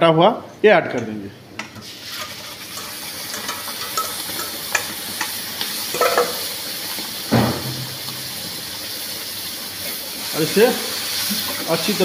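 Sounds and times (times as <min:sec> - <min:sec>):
yogurt sizzling in hot oil: 0:01.6 - 0:12.0.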